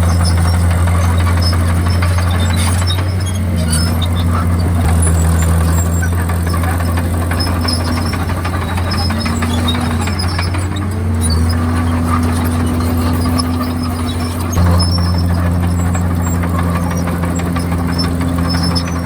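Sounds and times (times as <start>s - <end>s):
bulldozer diesel engine under load: 0.0s - 19.0s
faint high squeaks and clinks: 0.1s - 19.0s.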